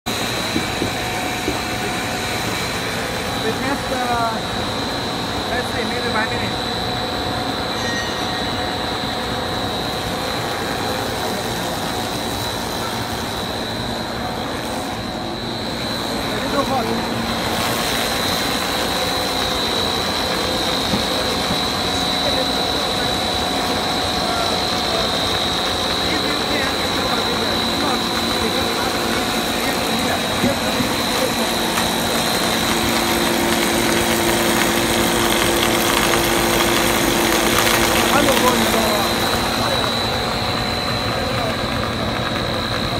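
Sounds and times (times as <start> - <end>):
machine drone with high whine: 0.1 - 42.9.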